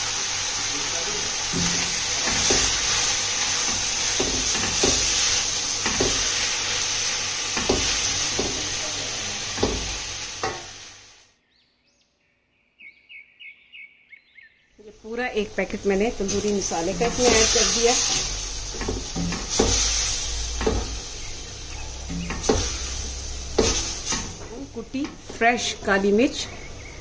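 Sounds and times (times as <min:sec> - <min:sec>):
food sizzling in a wok: 0:00.0 - 0:11.3, 0:14.9 - 0:27.0.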